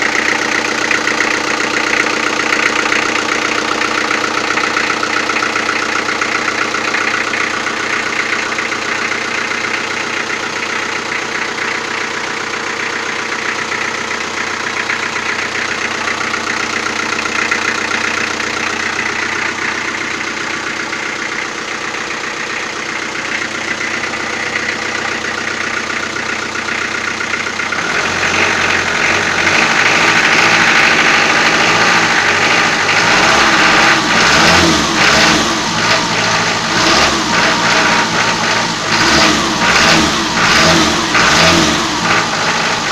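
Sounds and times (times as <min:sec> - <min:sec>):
diesel engine idling with knock: 0:00.0 - 0:42.9.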